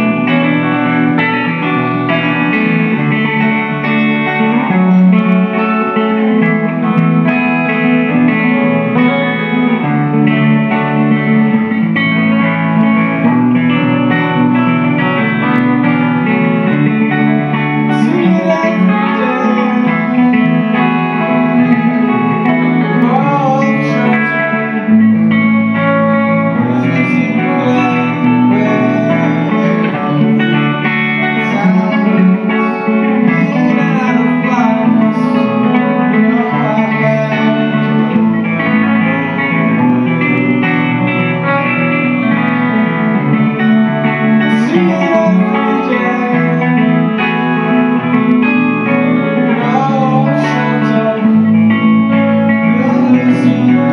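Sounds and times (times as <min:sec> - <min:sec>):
bass line: 0:00.0 - 0:53.9
live guitar music: 0:00.0 - 0:53.9.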